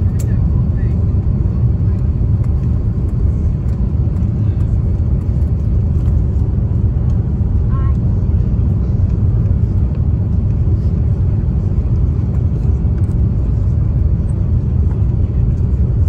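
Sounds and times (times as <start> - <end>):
air rushing along fuselage: 0.0 - 16.0
aircraft engine rumble in cabin: 0.0 - 16.0.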